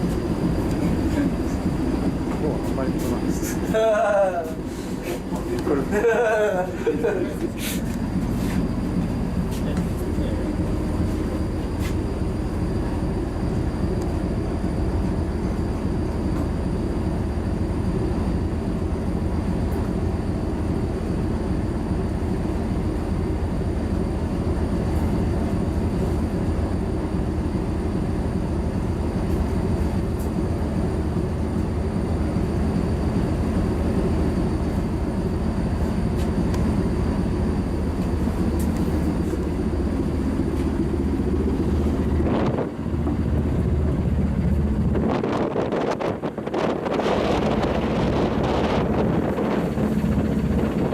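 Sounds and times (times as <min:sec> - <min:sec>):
ship engine low rumble: 0:00.0 - 0:50.9.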